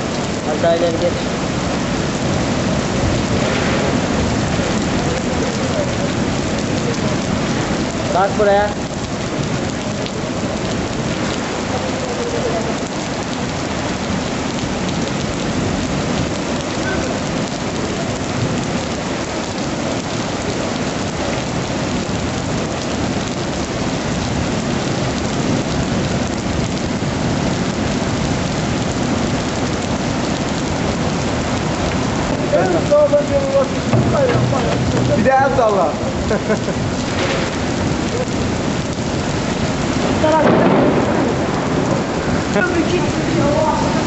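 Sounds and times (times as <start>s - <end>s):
falling rain: 0.0s - 44.0s
flood torrent rushing: 0.0s - 44.0s.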